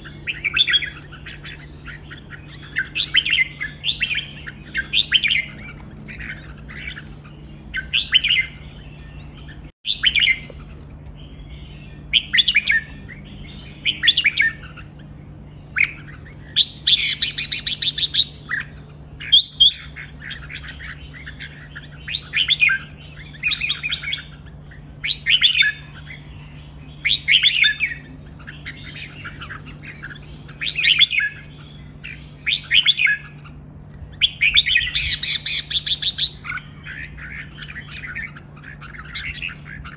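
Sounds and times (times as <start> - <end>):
bulbuls singing chirping song: 0.0 - 39.9.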